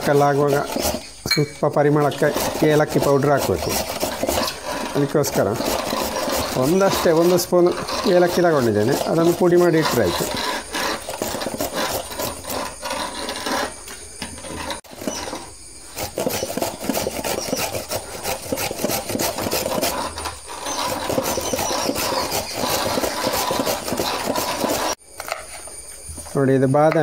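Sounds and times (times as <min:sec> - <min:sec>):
spices ground on wooden board: 0:00.0 - 0:25.6.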